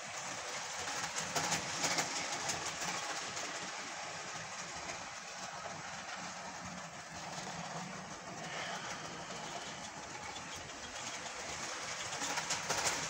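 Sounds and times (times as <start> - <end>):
model locomotive running: 0.0 - 13.0
model train wheels clicking over rail joints: 0.0 - 13.0.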